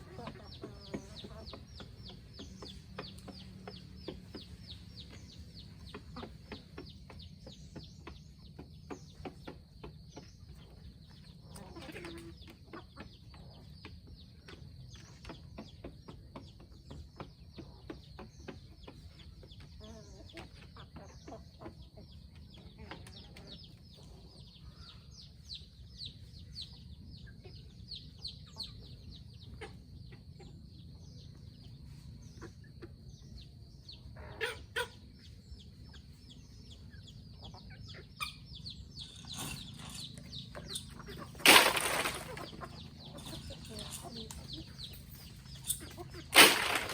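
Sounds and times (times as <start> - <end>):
chickens clucking: 0.0 - 46.9.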